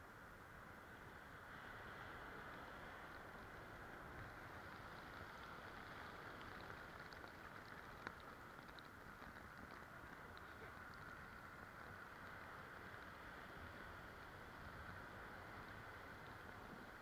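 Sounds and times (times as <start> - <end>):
foam bubbles popping: 3.1 - 17.0.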